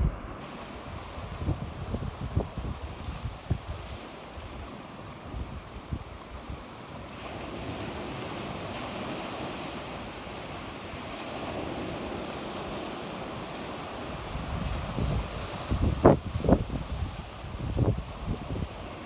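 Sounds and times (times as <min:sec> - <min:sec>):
sea waves washing onto shore: 0:00.0 - 0:19.0
wind buffeting microphone: 0:00.0 - 0:19.0.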